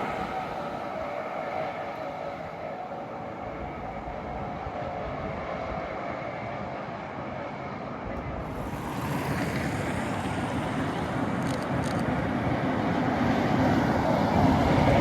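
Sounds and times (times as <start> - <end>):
tram running on rails: 0.0 - 15.0.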